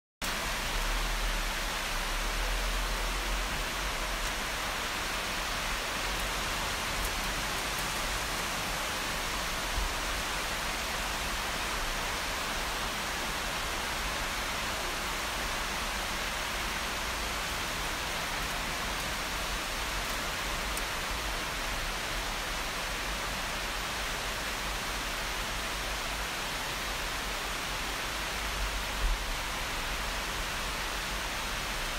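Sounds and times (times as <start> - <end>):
heavy rain falling: 0.2 - 31.9.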